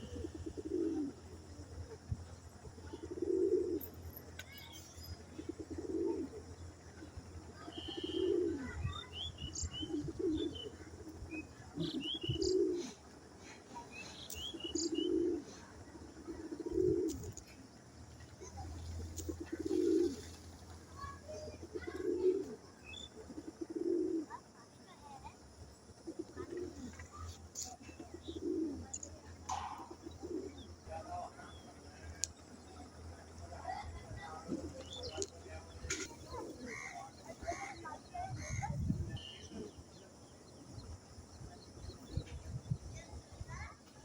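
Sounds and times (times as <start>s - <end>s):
pigeons cooing: 0.0s - 4.6s, 5.2s - 17.6s, 18.2s - 24.9s, 25.8s - 42.3s
small birds chirping: 0.0s - 44.0s.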